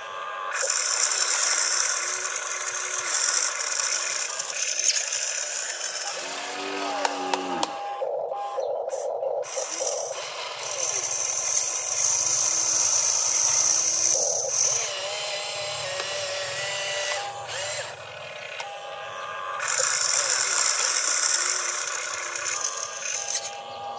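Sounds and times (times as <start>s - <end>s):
toy excavator electric motors whining: 0.0s - 23.9s.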